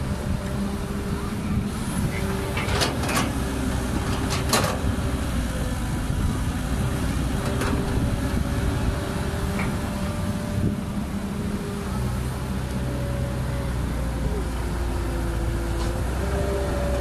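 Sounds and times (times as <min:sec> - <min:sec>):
excavator diesel engine under load: 0:00.0 - 0:17.0.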